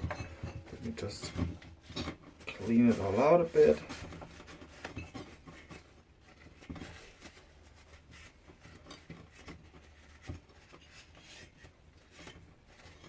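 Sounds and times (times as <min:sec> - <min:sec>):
light clicks and rubbing: 0:00.0 - 0:13.0.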